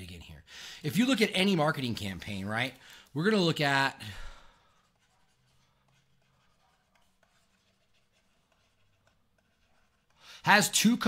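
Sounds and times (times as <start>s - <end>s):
stylus scratching while writing: 1.1s - 11.0s.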